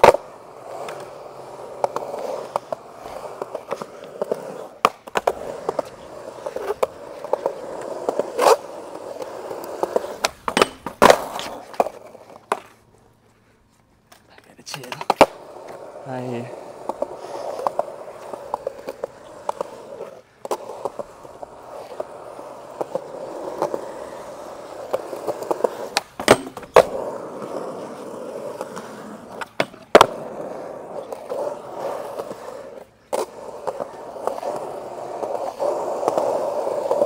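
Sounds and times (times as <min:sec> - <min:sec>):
skateboard clacking on ground: 0:00.0 - 0:13.0, 0:14.0 - 0:37.0
skateboard wheels rolling on concrete: 0:00.0 - 0:37.0.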